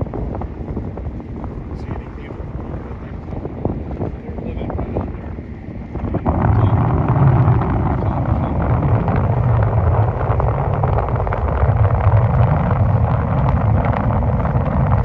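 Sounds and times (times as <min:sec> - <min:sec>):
boat motor rumbling: 0:00.0 - 0:15.0
wind buffeting microphone: 0:00.0 - 0:15.0.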